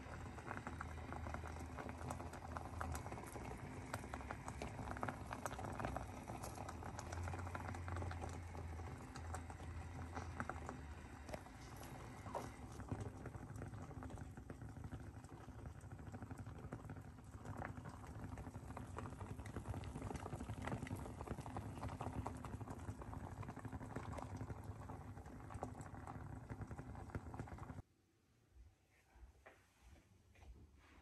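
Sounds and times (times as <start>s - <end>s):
water boiling and bubbling: 0.0s - 27.8s.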